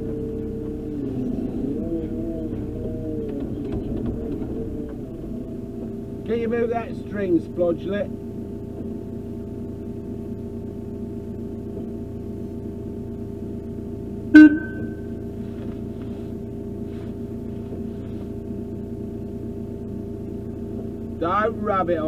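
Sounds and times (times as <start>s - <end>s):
diesel engine humming: 0.0s - 22.0s.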